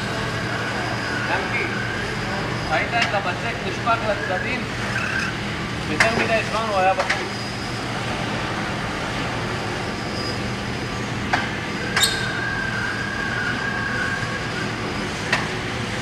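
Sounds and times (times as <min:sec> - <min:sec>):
high machine whine: 0:00.0 - 0:16.0.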